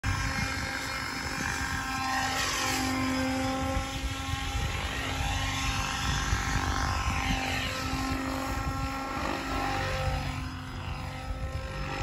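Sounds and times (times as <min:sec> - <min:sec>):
model helicopter motor whine: 0:00.0 - 0:12.0
rotor swish: 0:00.0 - 0:12.0.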